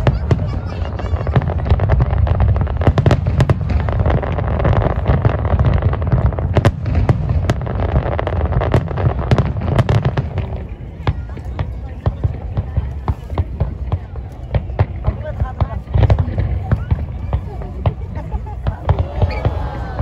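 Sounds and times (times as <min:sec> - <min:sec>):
fireworks booming: 0:00.0 - 0:20.0
fireworks crackling pops: 0:00.0 - 0:20.0.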